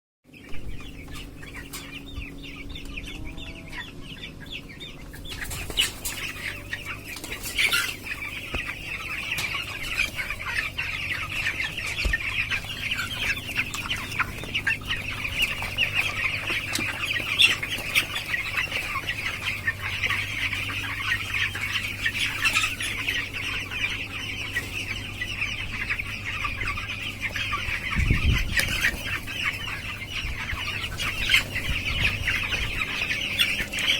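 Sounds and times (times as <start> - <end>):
chicks cheeping: 0.3 - 33.9.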